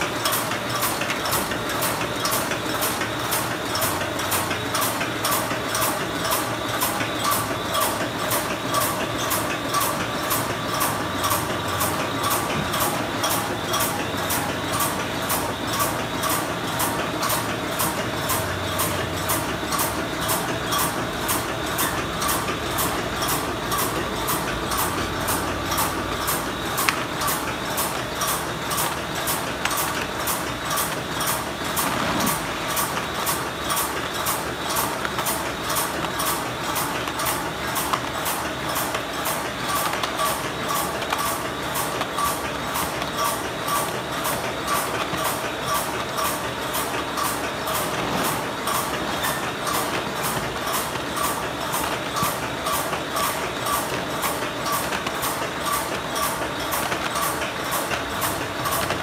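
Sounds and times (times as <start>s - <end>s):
wrapping machine clattering: 0.0s - 59.0s.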